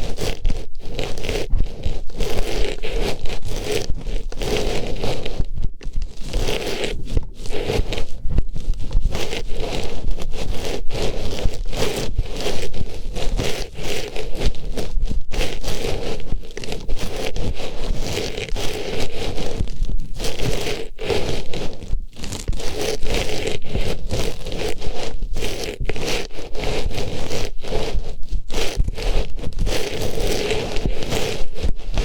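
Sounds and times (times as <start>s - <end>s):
fabric rustling on microphone: 0.0s - 32.0s.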